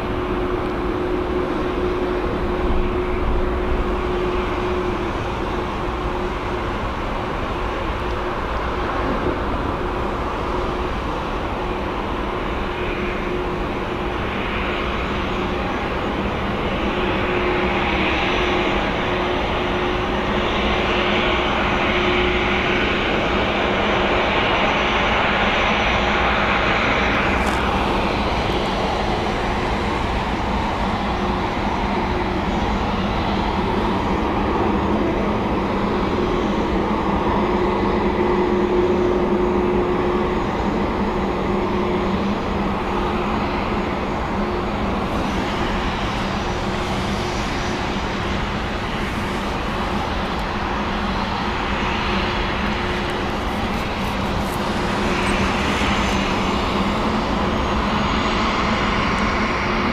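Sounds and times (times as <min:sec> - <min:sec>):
jet engine whine and rumble: 0:00.0 - 0:59.9.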